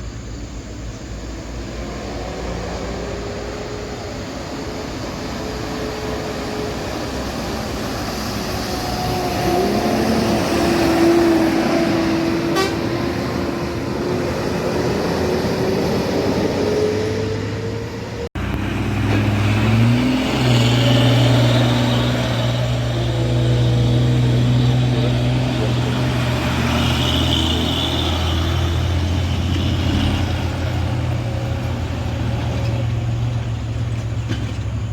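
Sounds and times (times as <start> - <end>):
buses driving at speed: 0.0 - 34.9.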